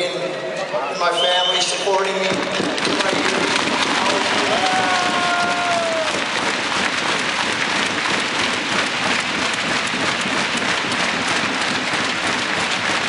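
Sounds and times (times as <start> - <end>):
crowd clapping: 2.0 - 13.0.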